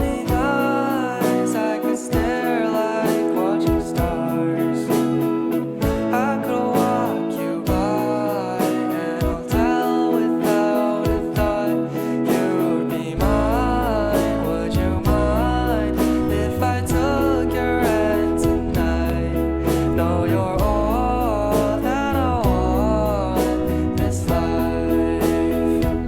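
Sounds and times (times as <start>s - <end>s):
guitar: 0.0s - 26.0s
man singing: 0.0s - 26.0s.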